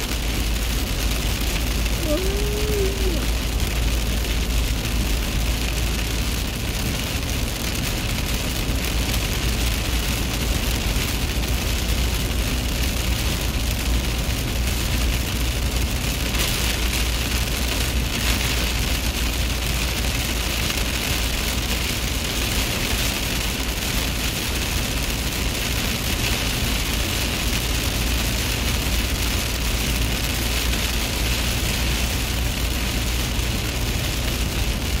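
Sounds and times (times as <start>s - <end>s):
vehicle driving at speed: 0.0s - 35.0s.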